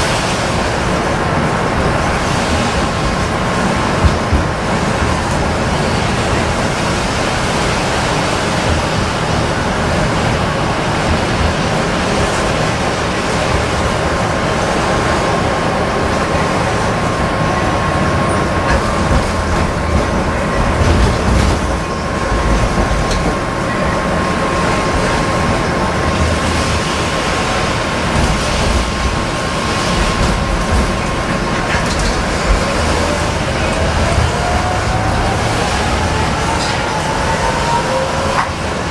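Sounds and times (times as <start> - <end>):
tram wheels rumbling: 0.0 - 38.9.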